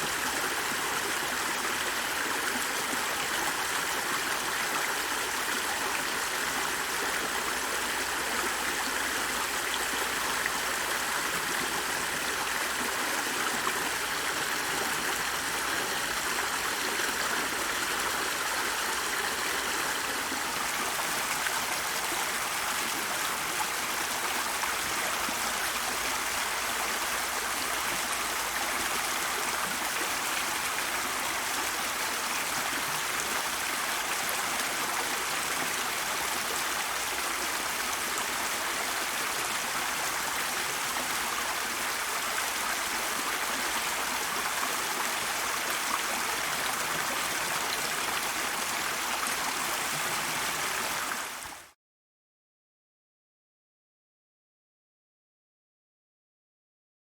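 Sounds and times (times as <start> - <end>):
running water: 0.0 - 51.6.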